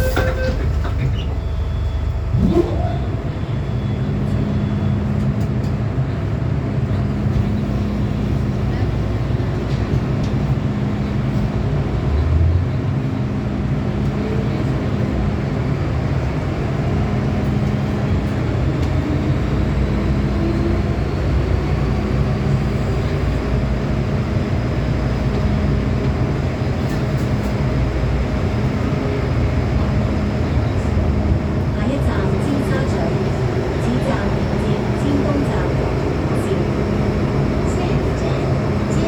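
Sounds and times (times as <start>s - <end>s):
train rumbling in tunnel: 0.0s - 39.0s.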